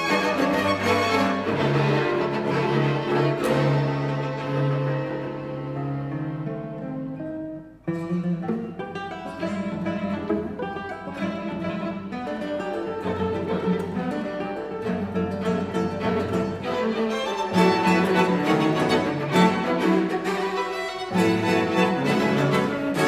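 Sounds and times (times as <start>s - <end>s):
bowed strings: 0.0s - 23.0s
classical guitar plucked notes: 0.0s - 23.0s.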